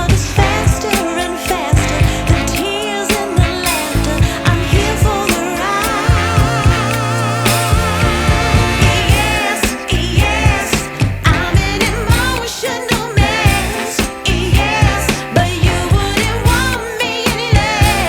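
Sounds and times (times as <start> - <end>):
song with vocals over a beat: 0.0 - 18.0.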